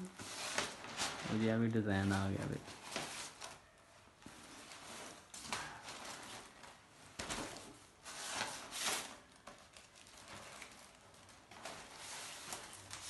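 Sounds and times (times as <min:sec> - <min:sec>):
paper rustling: 0:00.2 - 0:13.0.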